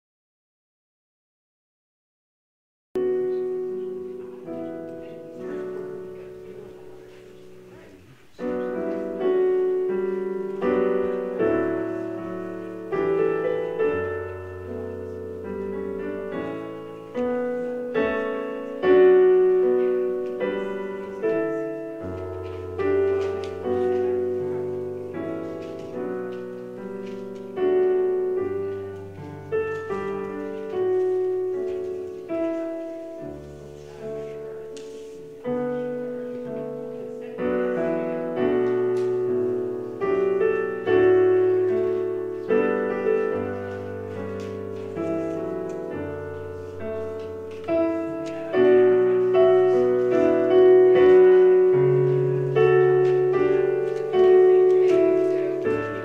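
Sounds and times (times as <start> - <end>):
solo piano chords: 3.0 - 56.0.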